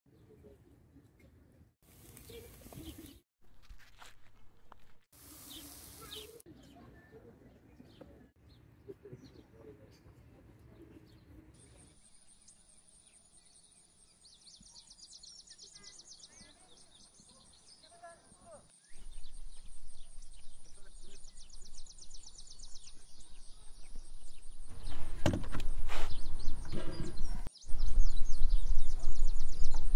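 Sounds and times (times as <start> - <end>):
birds chirping: 2.1 - 3.2, 5.3 - 29.9.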